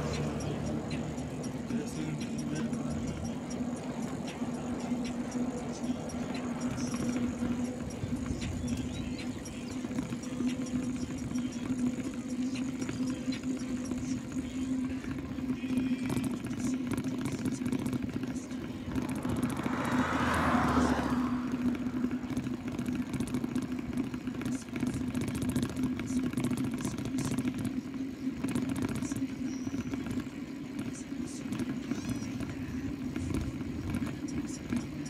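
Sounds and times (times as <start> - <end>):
constant low hum: 0.0 - 35.0
motor vehicle passing: 0.0 - 35.0
wind and tyre noise: 0.0 - 35.0.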